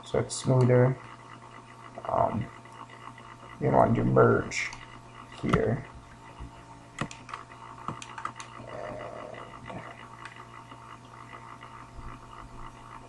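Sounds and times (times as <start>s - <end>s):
low electrical hum: 0.0s - 13.0s
computer mouse and keyboard clicks: 0.4s - 13.0s.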